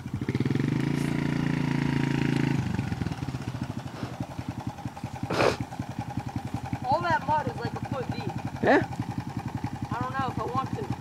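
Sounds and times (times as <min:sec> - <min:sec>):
dirt bike engine revving and idling: 0:00.0 - 0:11.0.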